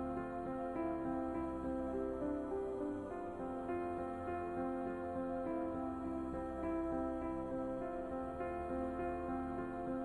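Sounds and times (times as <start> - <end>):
soft new-age music: 0.0 - 10.0.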